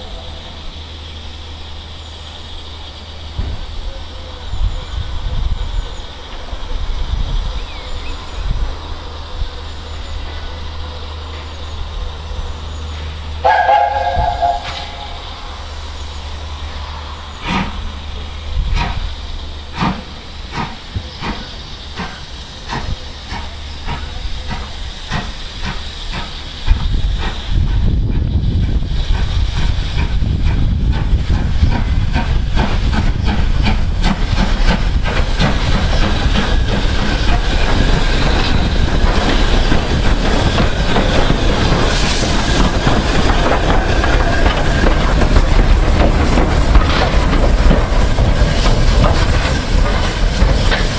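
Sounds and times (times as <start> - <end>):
loud steam hiss: 0.0 - 50.9
steam locomotive beats: 0.0 - 50.9.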